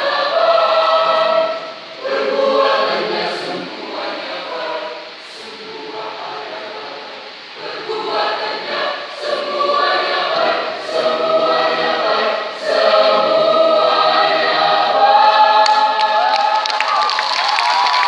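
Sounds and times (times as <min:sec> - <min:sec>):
choir singing: 0:00.0 - 0:16.8.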